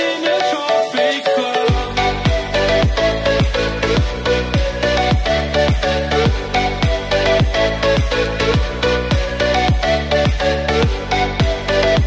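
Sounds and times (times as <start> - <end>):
repeating synth melody: 0.0 - 12.0
kick drum: 1.7 - 11.7.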